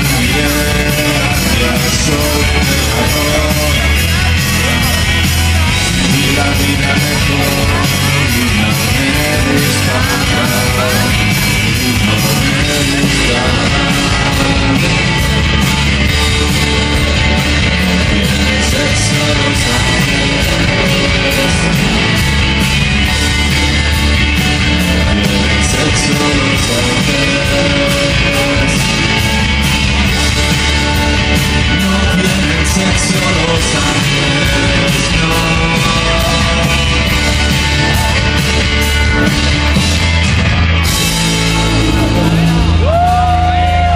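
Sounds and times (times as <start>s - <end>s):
man singing: 0.0s - 23.3s, 24.6s - 39.8s
bass guitar: 0.0s - 43.9s
drums: 0.0s - 43.9s
electric guitar: 0.0s - 43.9s
live rock band playing: 0.0s - 43.9s.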